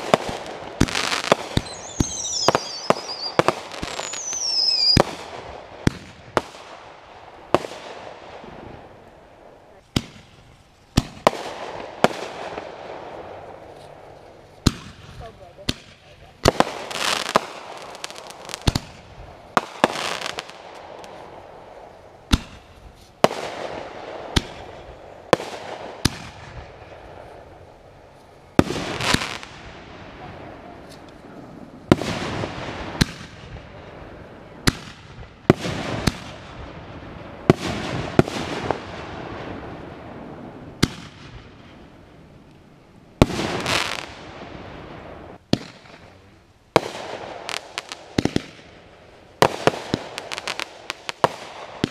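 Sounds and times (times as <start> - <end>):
fireworks bursting with echo: 0.0 - 51.9.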